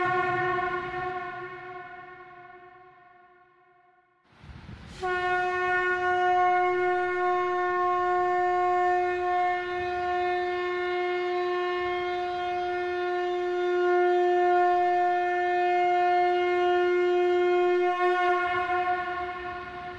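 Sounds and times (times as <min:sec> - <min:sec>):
conch shell blown: 0:00.0 - 0:04.2, 0:04.9 - 0:19.9.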